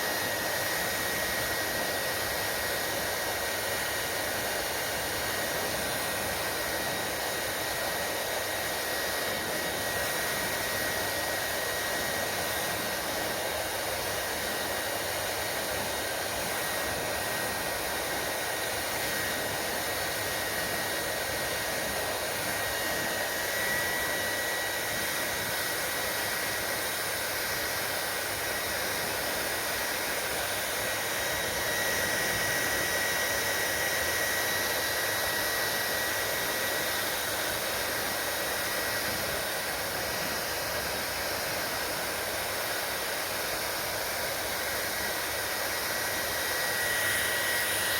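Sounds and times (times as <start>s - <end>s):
hair dryer running: 0.0s - 47.9s.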